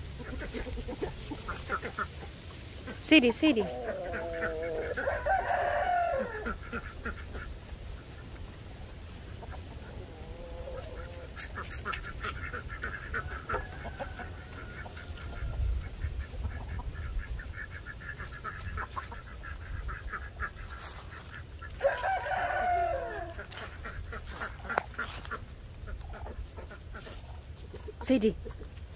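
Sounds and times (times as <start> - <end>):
ducks quacking: 0.0 - 28.9.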